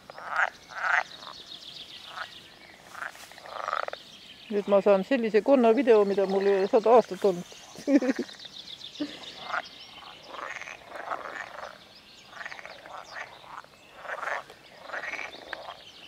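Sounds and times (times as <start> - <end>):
chorus of frogs croaking: 0.0 - 16.0.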